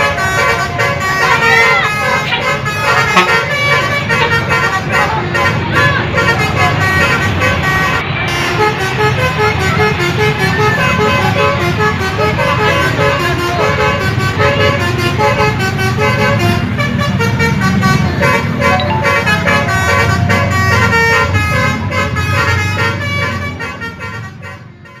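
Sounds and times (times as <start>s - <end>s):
bus engine rumble: 0.0s - 25.0s
bus horn playing melody: 0.0s - 25.0s.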